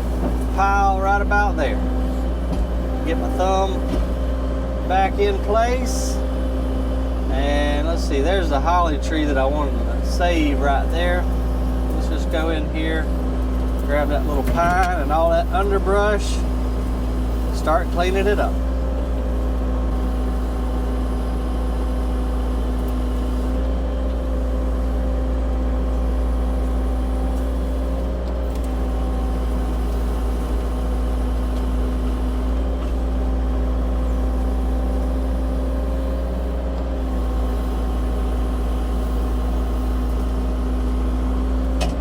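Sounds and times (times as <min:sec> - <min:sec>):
diesel engine running: 0:00.0 - 0:42.0
hydraulic whine: 0:00.0 - 0:42.0.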